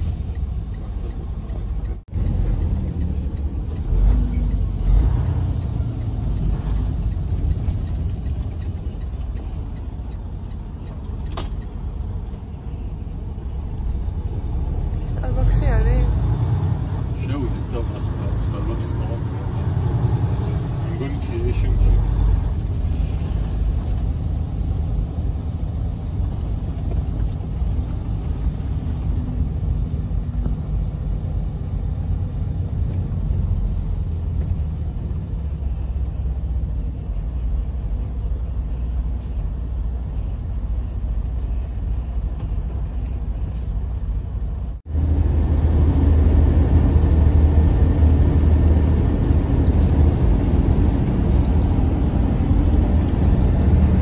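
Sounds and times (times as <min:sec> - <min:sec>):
truck engine and road noise: 0:00.0 - 0:54.0.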